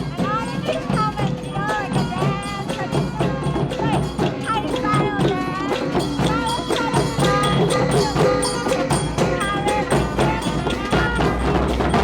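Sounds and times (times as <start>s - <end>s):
lively music with percussion beat: 0.0s - 12.0s.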